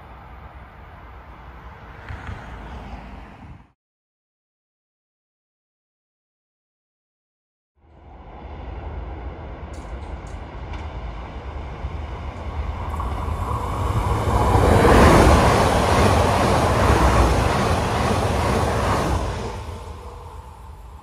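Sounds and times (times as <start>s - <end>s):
train passing at speed: 0.0s - 3.8s, 7.8s - 21.0s.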